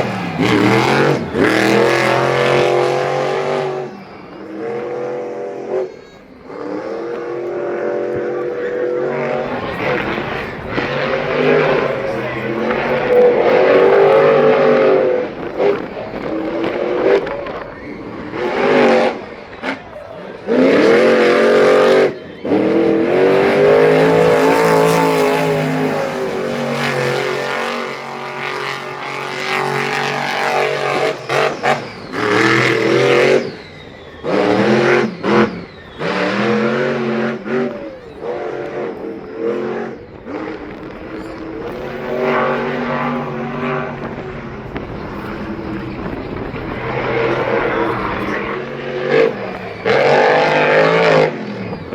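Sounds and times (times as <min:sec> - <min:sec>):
vehicle engines revving: 0:00.0 - 0:51.9.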